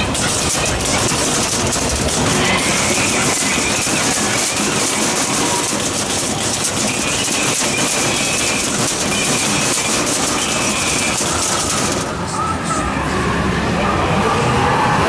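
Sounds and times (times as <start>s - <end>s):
rapid rattling and clattering: 0.0s - 12.3s.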